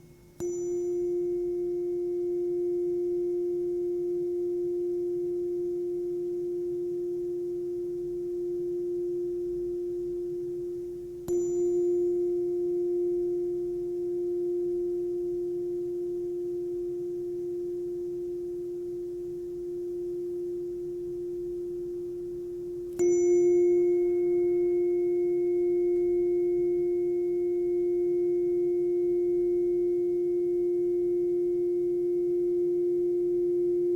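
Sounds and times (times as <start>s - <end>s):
tuning fork ringing: 0.0s - 33.9s
tuning fork struck: 0.0s - 33.9s.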